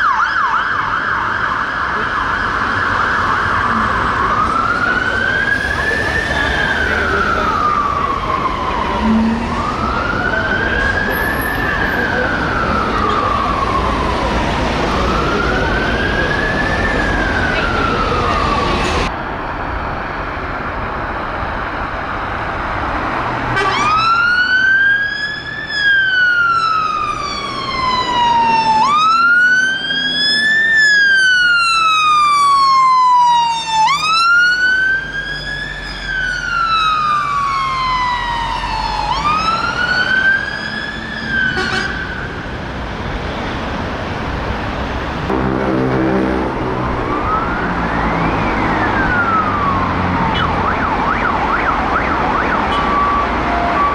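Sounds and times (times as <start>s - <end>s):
fire engine siren wailing: 0.0s - 19.1s, 19.7s - 53.9s
second siren: 0.0s - 19.1s, 23.6s - 42.5s, 45.2s - 53.9s
truck engine: 1.1s - 53.9s.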